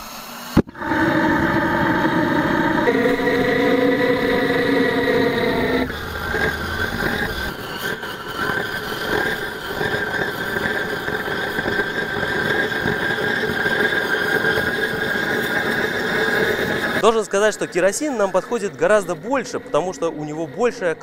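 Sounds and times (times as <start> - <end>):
burner hum and whine: 0.6 - 21.0
rushing flames with high whine: 0.6 - 21.0.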